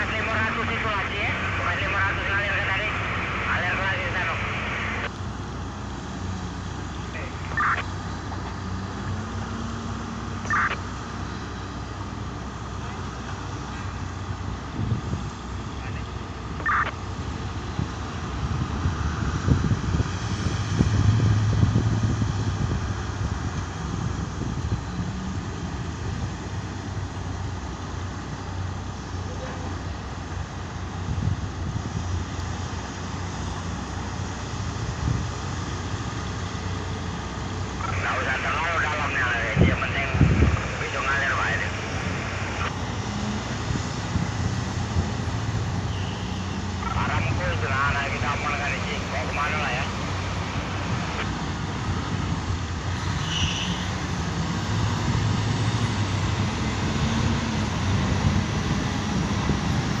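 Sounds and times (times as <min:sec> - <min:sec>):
heavy diesel machinery humming: 0:00.0 - 1:00.0.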